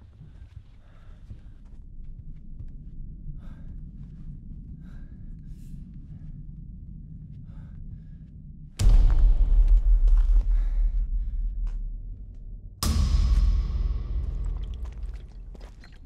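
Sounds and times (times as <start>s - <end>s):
low rumbling drone: 1.8s - 16.0s.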